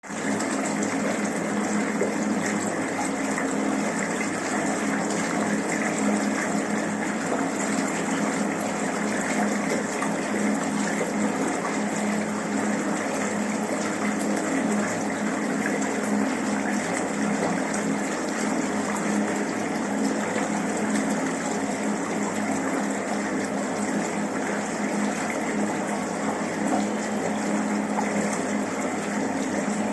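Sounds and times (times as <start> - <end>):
water gushing from tap into bathtub: 0.0 - 29.9.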